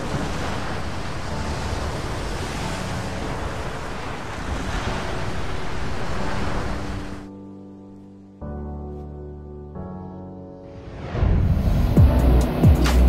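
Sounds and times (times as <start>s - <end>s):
blizzard wind rushing: 0.0s - 8.4s, 10.6s - 13.0s.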